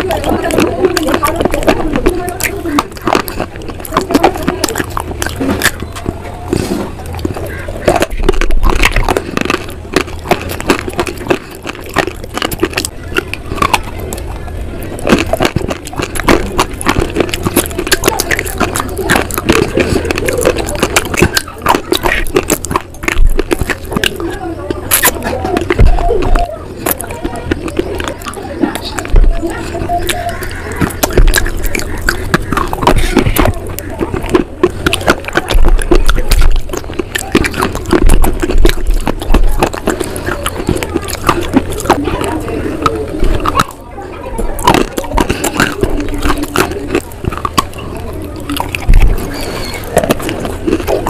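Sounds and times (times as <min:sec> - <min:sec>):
chewing crunchy stone: 0:00.0 - 0:51.0
squishy clicking in thick paste: 0:00.0 - 0:51.0.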